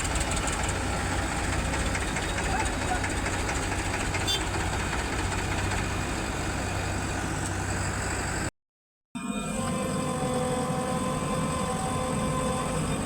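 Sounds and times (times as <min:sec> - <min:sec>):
diesel engine low rumble: 0:00.0 - 0:08.5, 0:09.2 - 0:13.0.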